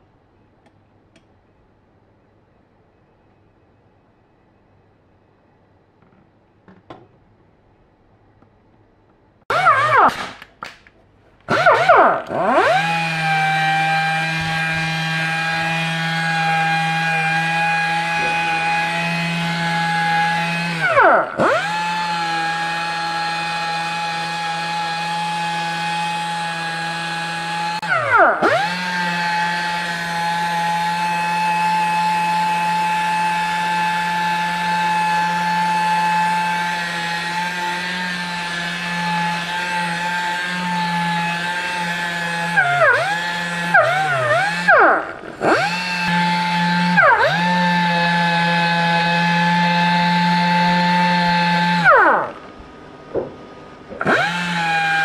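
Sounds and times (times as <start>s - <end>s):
power sander whining: 9.5s - 10.2s, 11.5s - 55.0s.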